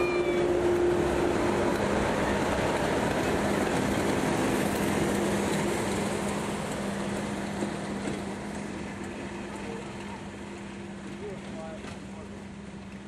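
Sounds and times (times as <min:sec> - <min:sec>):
diesel locomotive engine hum: 0:00.0 - 0:13.0
train wheels rumbling on rails: 0:00.0 - 0:13.0.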